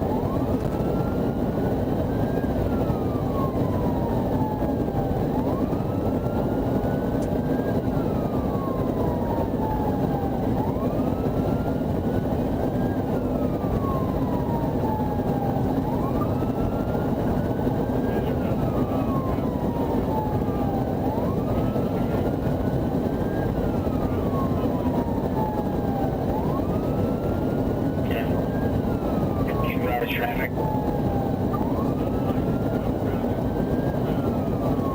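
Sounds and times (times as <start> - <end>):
engine and road noise: 0.0 - 34.9
police siren wailing: 0.0 - 34.9.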